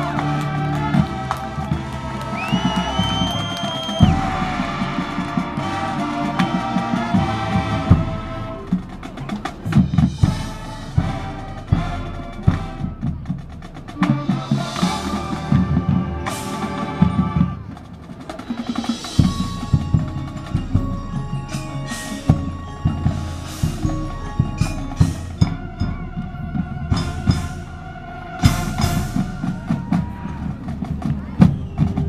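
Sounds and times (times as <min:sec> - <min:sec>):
band wind chords: 0:00.0 - 0:32.0
keyboard-like percussion: 0:00.0 - 0:32.0.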